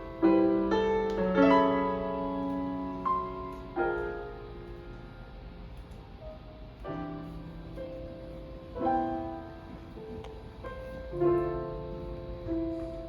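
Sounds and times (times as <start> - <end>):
solo jazz piano chords: 0.0 - 13.0.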